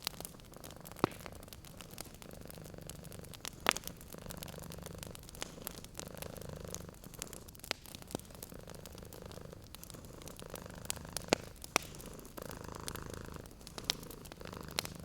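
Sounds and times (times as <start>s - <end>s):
cat purring: 0.0s - 15.0s
wood fire crackling and popping: 0.0s - 15.0s.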